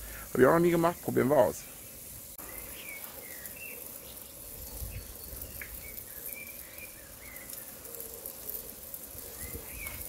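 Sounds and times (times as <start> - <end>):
faint steady hiss: 0.0 - 10.0
small birds chirping: 0.0 - 10.0.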